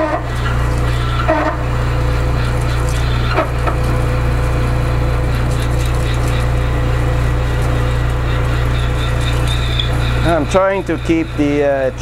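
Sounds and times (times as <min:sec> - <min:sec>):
drill bit cutting metal: 0:00.0 - 0:12.0
metal lathe motor hum: 0:00.0 - 0:12.0.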